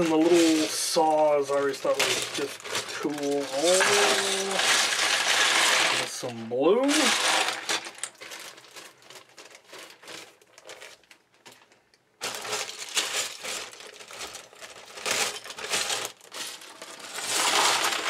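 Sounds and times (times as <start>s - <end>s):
plastic bag crinkling: 0.0s - 18.0s
plastic bricks clattering: 0.0s - 18.0s.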